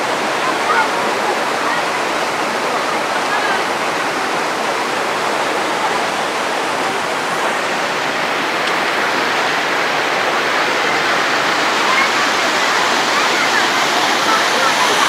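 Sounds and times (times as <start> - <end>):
river rushing through rapids: 0.0 - 15.0.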